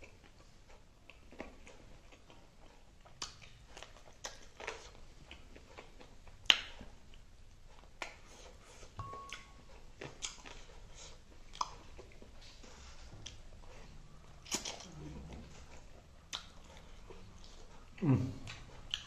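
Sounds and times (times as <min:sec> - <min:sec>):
wet mouth clicks and smacks chewing: 0:00.0 - 0:07.2, 0:09.2 - 0:17.9, 0:18.5 - 0:19.0.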